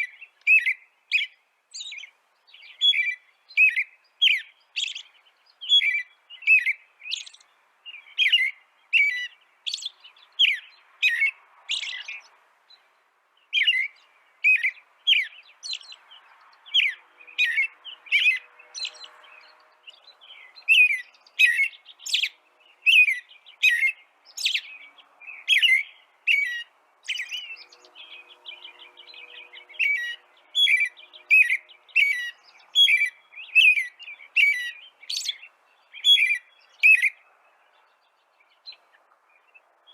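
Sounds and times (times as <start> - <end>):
small songbird chirping: 0.0 - 39.9.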